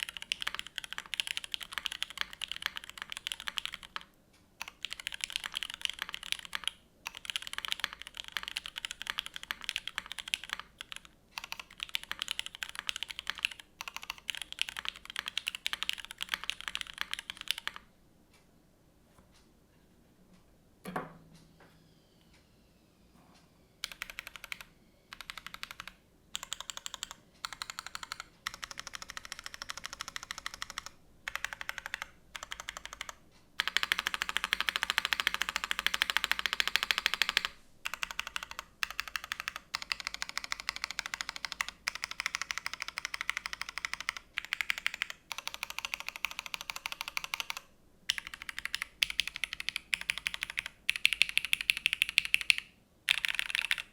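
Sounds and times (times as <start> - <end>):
mechanical keyboard typing: 0.0 - 17.9, 23.8 - 53.9.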